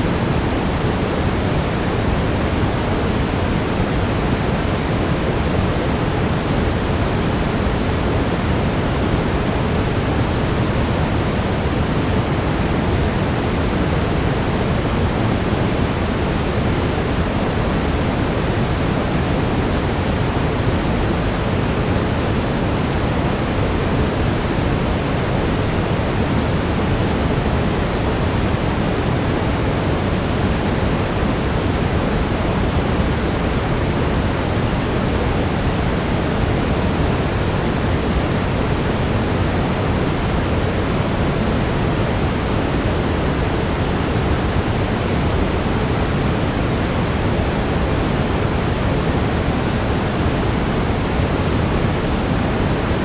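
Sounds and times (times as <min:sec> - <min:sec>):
brown noise hiss: 0:00.0 - 0:53.0.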